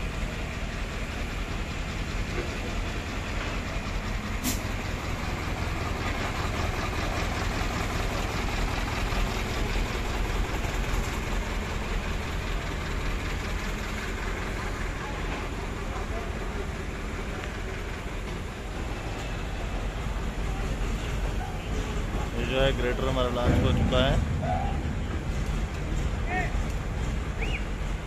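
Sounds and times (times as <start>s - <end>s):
crane diesel engine running: 0.0s - 28.0s.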